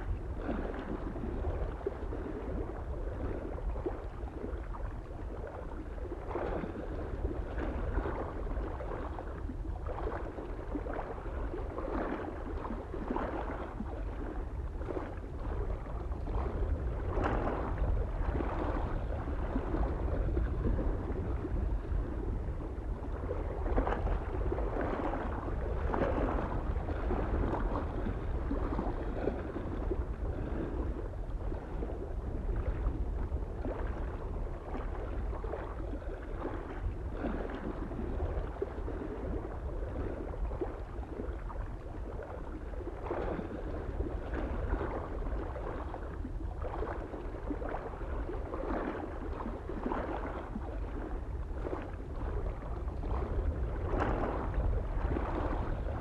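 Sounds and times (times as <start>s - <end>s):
low rumble of wind: 0.0s - 56.0s
small waves lapping on shore: 0.0s - 56.0s.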